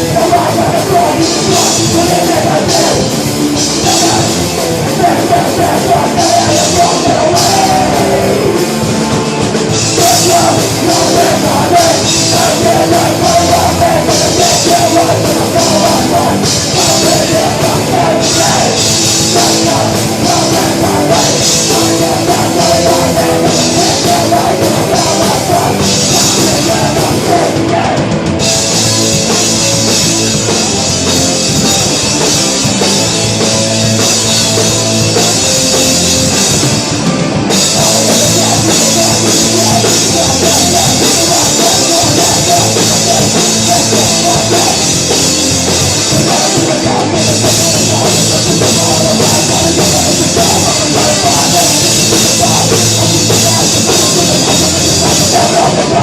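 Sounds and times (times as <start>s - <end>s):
bass guitar: 0.0s - 56.0s
distorted guitars: 0.0s - 56.0s
pounding drum kit: 0.0s - 56.0s.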